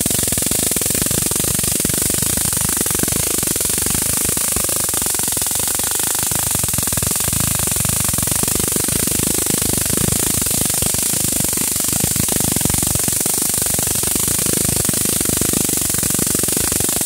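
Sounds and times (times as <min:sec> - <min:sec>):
electric arc crackling and buzzing: 0:00.0 - 0:17.0.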